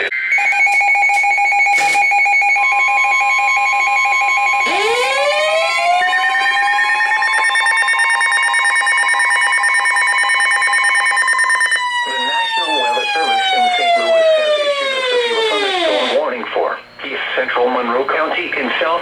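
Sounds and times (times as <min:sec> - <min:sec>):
siren-like rising tone: 0:00.0 - 0:16.3.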